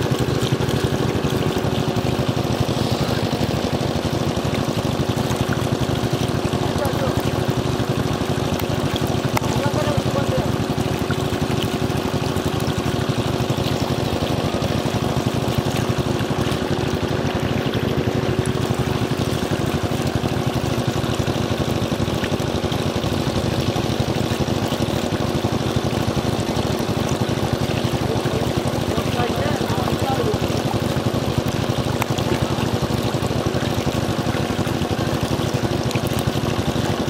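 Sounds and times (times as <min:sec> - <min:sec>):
water pouring into basket: 0:00.0 - 0:37.0
water pump engine running: 0:00.0 - 0:37.0.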